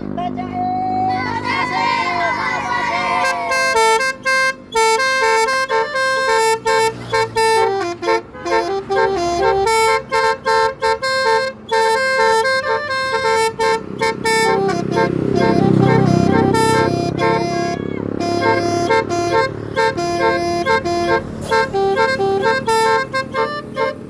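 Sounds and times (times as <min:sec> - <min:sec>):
musical vehicle horn melody: 0:00.0 - 0:24.0
vehicle passing: 0:00.0 - 0:24.0.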